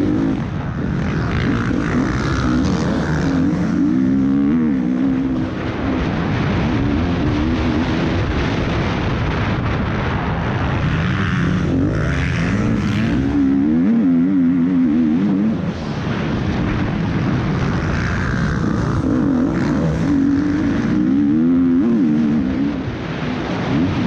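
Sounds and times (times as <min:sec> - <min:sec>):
motocross bike engine racing: 0:00.0 - 0:24.0
wind rushing over microphone: 0:00.0 - 0:24.0.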